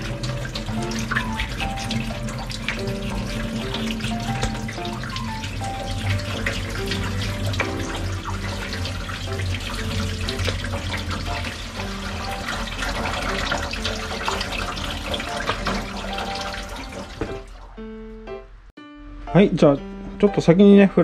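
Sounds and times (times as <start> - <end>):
tap water running: 0.0 - 17.8
background music: 0.0 - 21.0.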